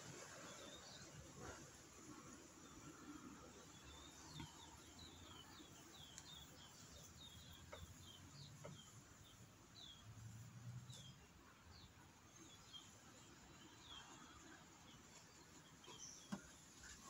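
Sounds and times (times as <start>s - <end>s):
bird chirping: 0.3s - 17.0s.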